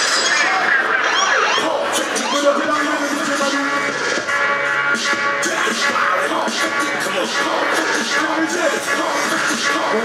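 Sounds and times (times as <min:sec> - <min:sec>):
loud hip hop music: 0:00.0 - 0:10.0.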